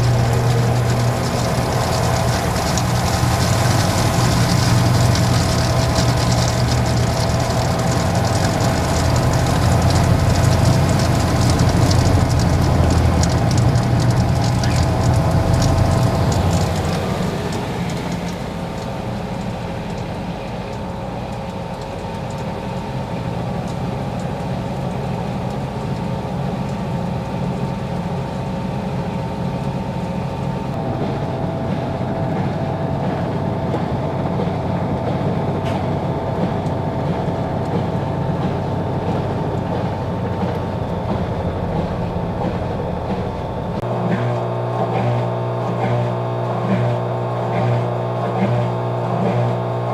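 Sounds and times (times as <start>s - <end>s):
washing machine motor hum: 0.0s - 49.9s.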